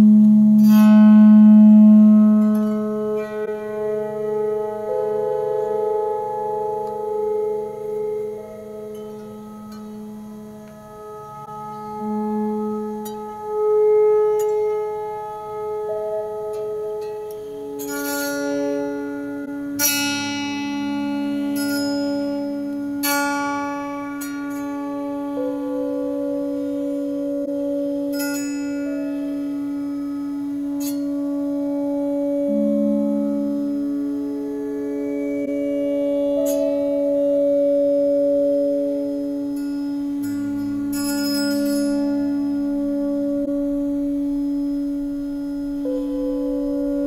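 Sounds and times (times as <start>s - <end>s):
bright strikes across strings: 0.0s - 47.0s
electric autoharp drone: 0.0s - 47.0s.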